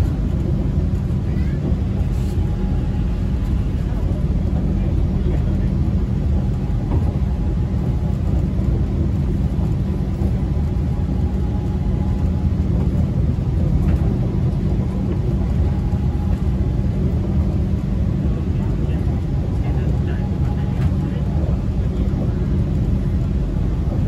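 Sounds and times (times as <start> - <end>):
monorail train rumbling: 0.0 - 24.0.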